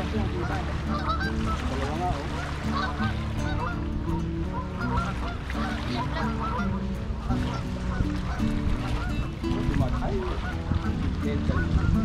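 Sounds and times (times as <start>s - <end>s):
background music with low notes: 0.0s - 12.0s
honking bird calls: 0.0s - 12.0s.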